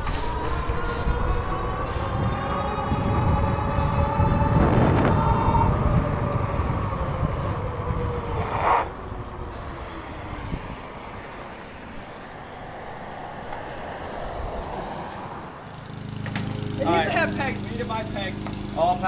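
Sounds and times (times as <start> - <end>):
bike wind and riding noise: 0.0 - 19.0.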